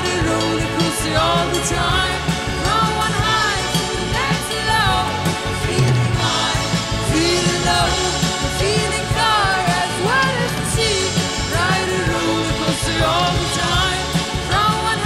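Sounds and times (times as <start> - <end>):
electronic backing and drums: 0.0 - 15.0
woman singing: 0.0 - 15.0.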